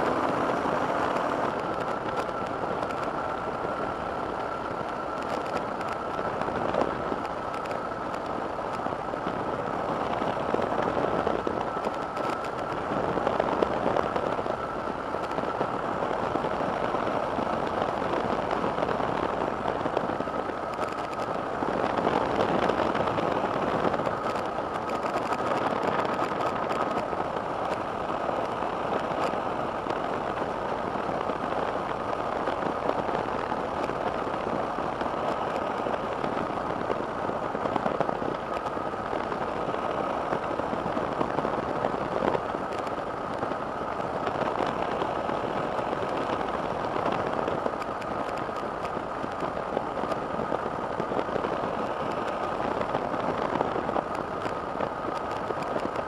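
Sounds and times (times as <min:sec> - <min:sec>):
microlight engine and propeller: 0:00.0 - 0:56.0
thin steady whine: 0:00.0 - 0:56.0
wind rush: 0:00.0 - 0:56.0.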